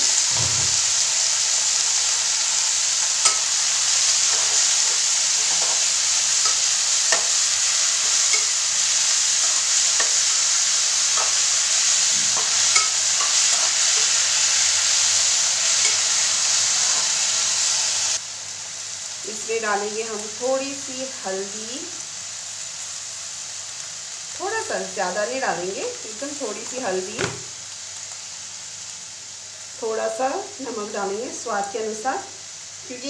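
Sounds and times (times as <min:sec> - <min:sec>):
greens sizzling in hot oil: 0:00.0 - 0:33.0.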